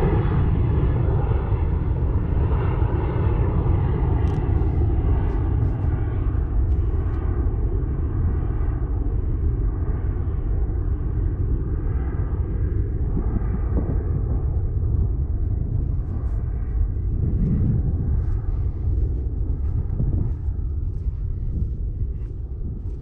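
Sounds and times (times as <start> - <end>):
aircraft drone overhead: 0.0 - 23.0
wind buffeting microphone: 0.0 - 23.0.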